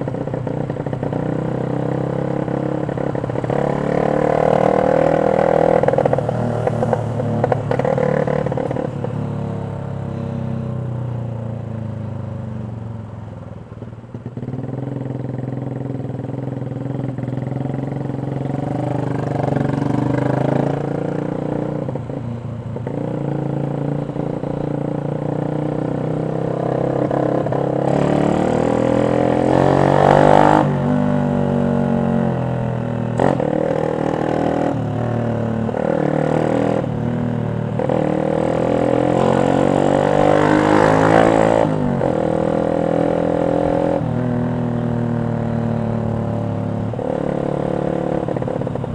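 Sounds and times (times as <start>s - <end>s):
motorcycle engine revving: 0.0s - 11.1s, 14.1s - 48.9s.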